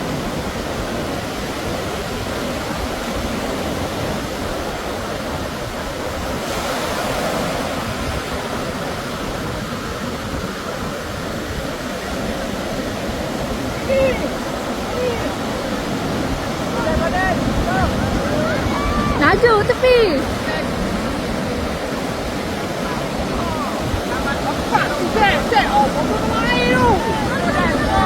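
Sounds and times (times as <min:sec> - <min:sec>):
sea surf breaking: 0:00.0 - 0:28.0.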